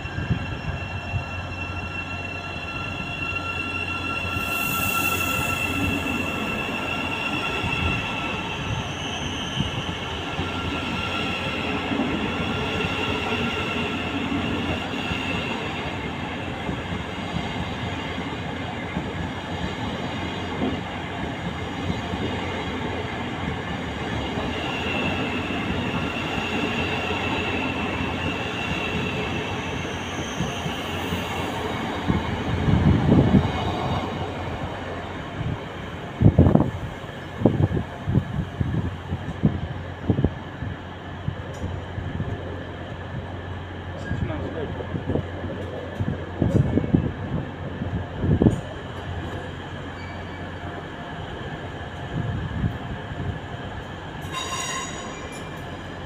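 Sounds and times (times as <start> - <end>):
electric train rolling with high whine: 0.0 - 56.0.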